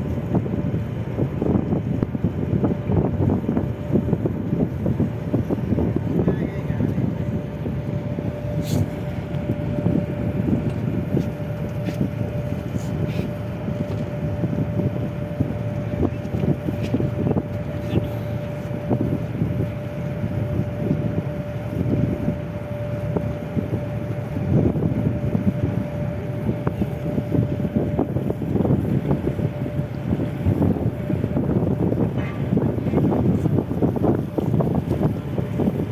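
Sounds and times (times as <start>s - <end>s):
boat engine running: 0.0s - 35.9s
wind buffeting microphone: 0.0s - 35.9s.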